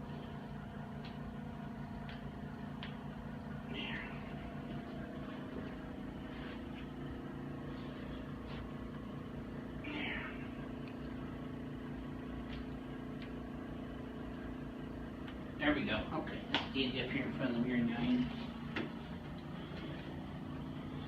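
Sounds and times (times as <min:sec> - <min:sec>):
steady low motor hum: 0:00.0 - 0:21.0.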